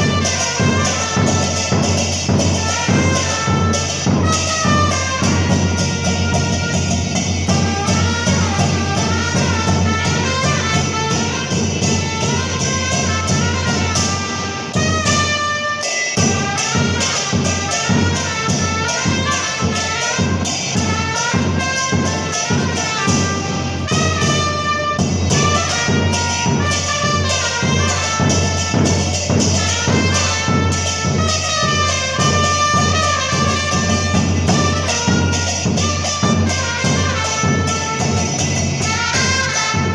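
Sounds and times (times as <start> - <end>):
trumpets playing a melody: 0.0 - 39.9.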